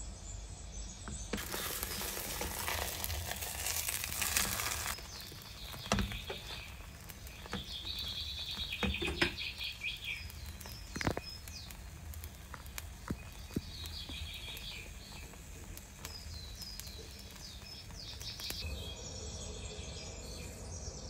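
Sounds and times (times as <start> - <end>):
battered slices sizzling in frying pan: 1.3 - 18.6.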